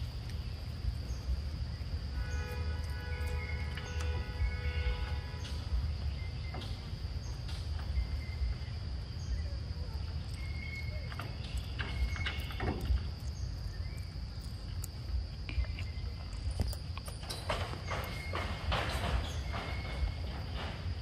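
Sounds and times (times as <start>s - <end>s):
insects droning high-pitched: 0.0s - 21.0s.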